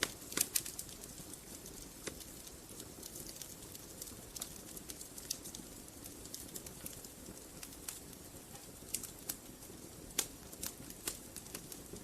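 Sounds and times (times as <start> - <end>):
hiss of flames: 0.0 - 12.0
logs crackling and popping: 0.0 - 12.0.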